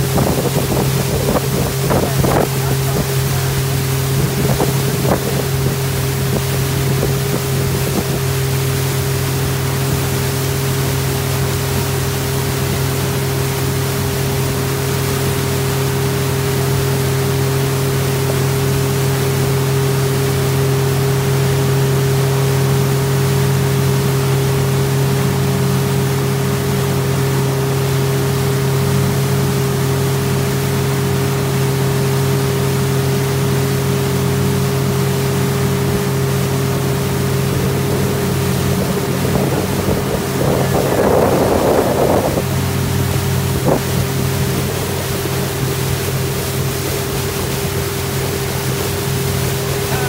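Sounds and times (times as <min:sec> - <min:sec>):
motorboat engine humming: 0:00.0 - 0:50.0
water rushing past hull: 0:00.0 - 0:50.0.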